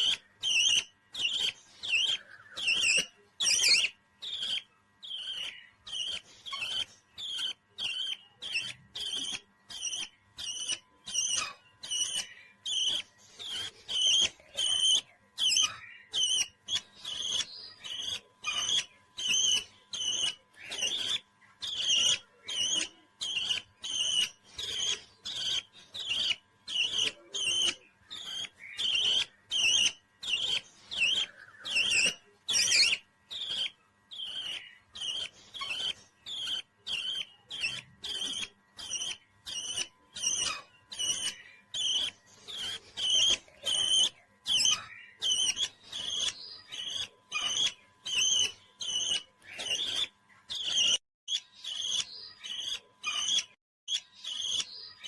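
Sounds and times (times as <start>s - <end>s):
parrot chirping shrilly: 0.0s - 54.7s.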